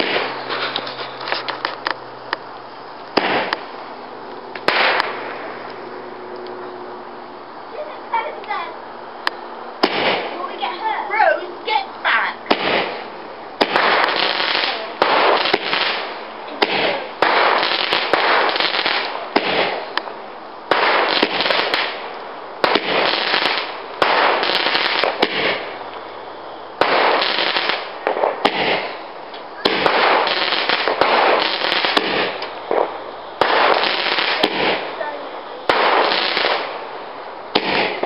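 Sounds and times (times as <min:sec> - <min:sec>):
fireworks crackling bursts: 0:00.0 - 0:38.0.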